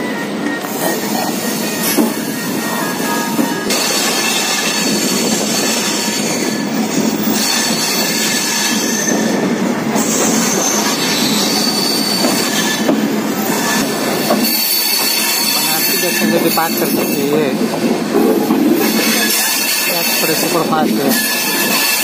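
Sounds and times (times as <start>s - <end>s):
train wheels rumbling on rails: 0.0s - 22.0s
high wheel squeal: 0.6s - 17.5s, 18.8s - 22.0s.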